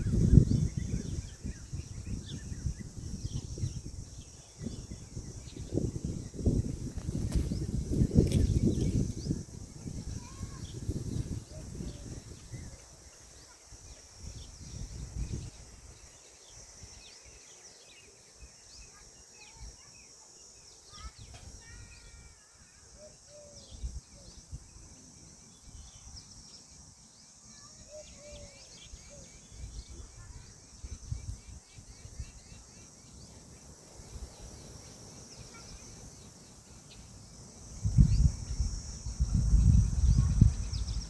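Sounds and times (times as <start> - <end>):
steady high hiss: 0.0 - 41.0.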